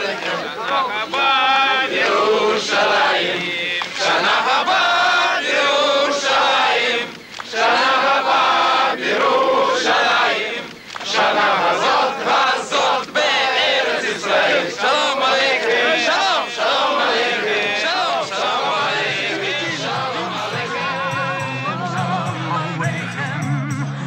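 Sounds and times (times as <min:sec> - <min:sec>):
voices chanting in unison: 0:00.0 - 0:24.0.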